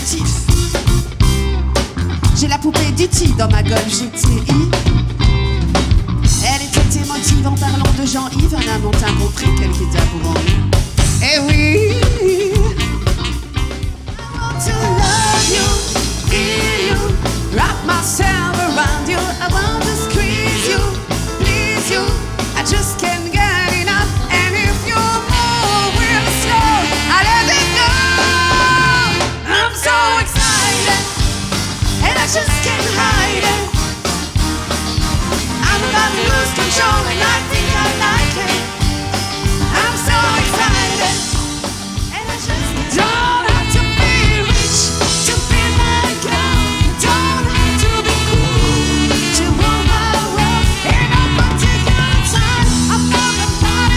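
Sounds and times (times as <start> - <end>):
funk band playing: 0.0 - 53.9.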